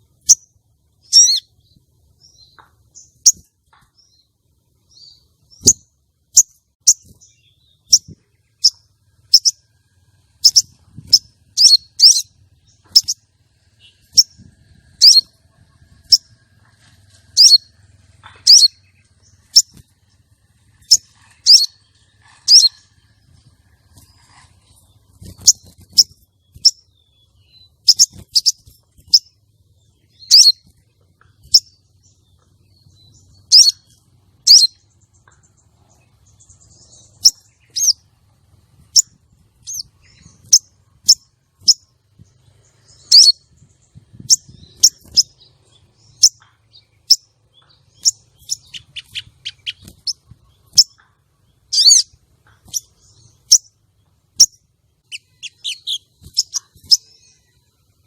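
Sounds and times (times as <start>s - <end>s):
bird high sharp chirps: 0.2s - 4.2s, 4.9s - 9.7s, 10.3s - 19.9s, 20.6s - 29.4s, 30.0s - 38.1s, 38.8s - 57.7s.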